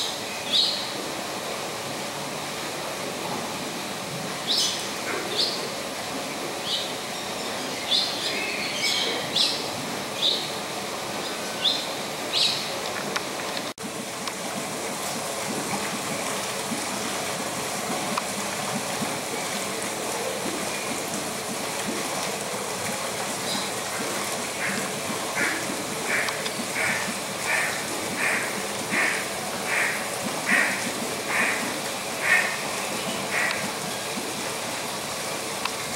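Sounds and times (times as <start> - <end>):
stream rushing: 0.0 - 35.9.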